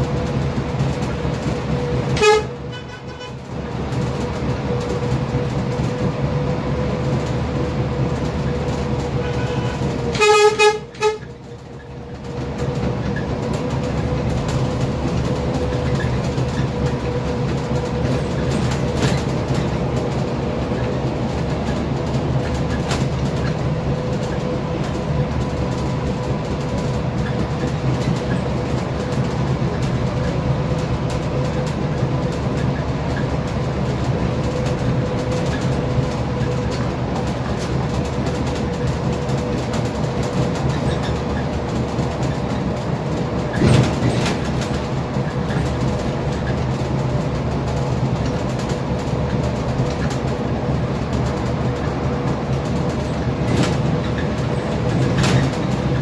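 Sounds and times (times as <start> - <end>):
bus engine drone: 0.0 - 56.0
road rumble: 0.0 - 56.0.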